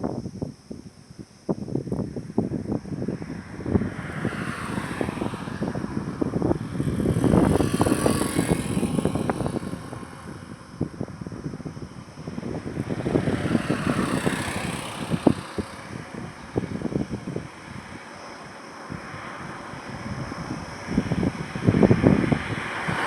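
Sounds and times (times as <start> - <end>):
wind buffeting microphone: 0.0 - 23.0
vehicles passing: 0.4 - 23.0.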